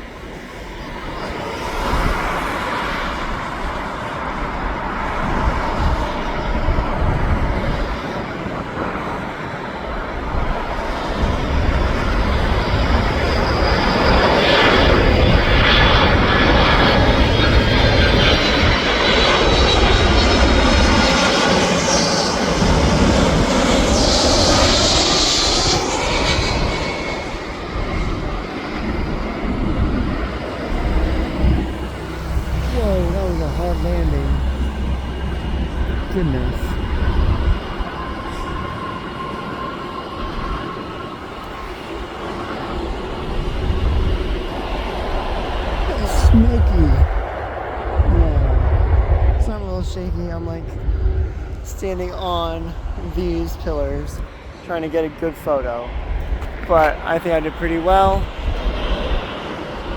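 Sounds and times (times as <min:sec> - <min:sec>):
jet engines passing overhead: 0:00.0 - 0:59.9.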